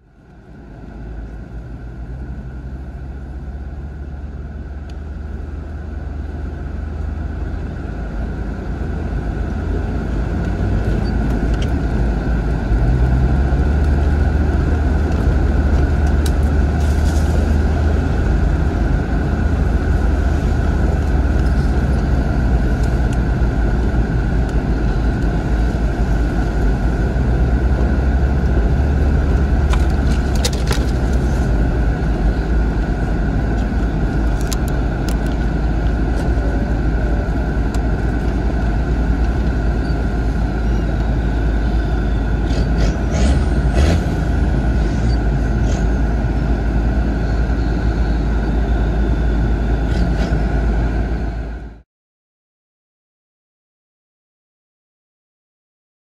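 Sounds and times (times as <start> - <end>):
diesel engine rumble while driving: 0.0 - 51.8.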